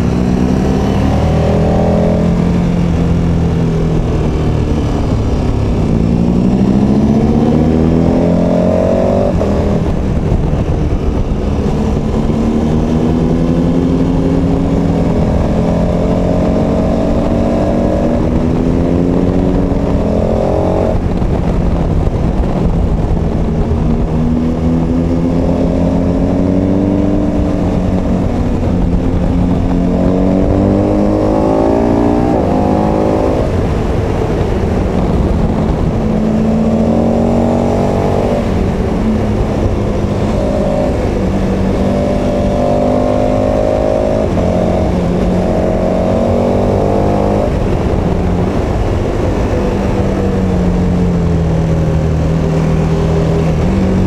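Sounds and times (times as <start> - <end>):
motorcycle engine accelerating: 0.0 - 54.0
wind noise: 0.0 - 54.0.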